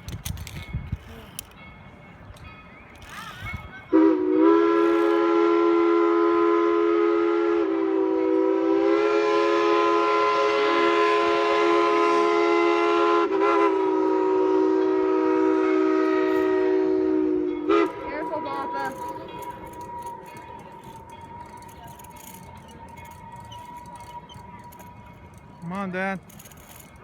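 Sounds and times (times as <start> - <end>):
steam locomotive chime whistle: 2.5 - 27.0.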